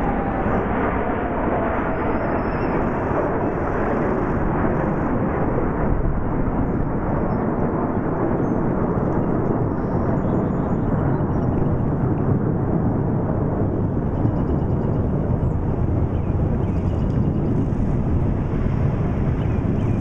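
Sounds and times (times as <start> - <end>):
military jets flying past: 0.0 - 20.0.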